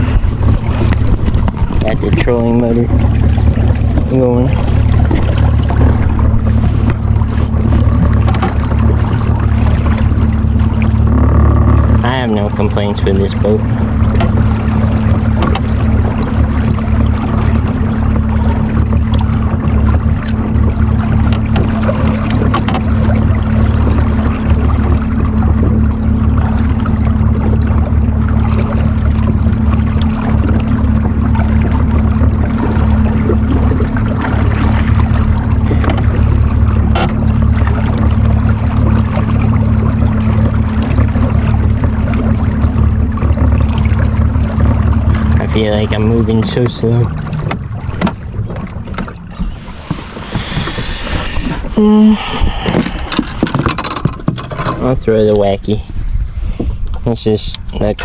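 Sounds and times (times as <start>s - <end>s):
low unsteady rumble: 0.0s - 58.0s
water splashing around hull: 0.0s - 58.0s.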